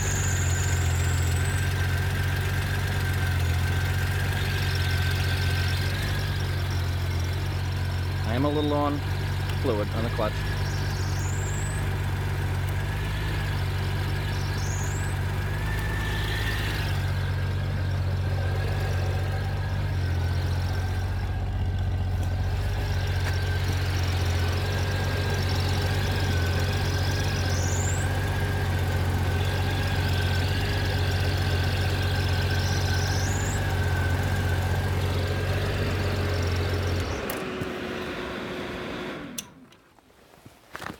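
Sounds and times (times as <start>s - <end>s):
motorcycle engine idling: 0.0s - 39.4s
clutch hissing: 0.0s - 39.6s.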